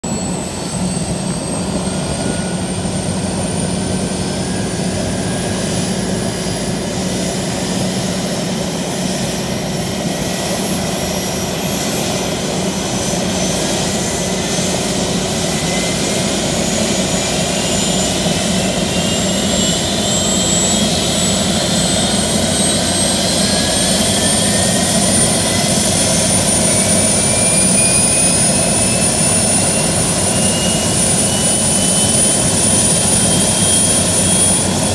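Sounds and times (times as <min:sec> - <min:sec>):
helicopter low drone: 0:00.0 - 0:34.9
high turbine whine: 0:00.0 - 0:34.9.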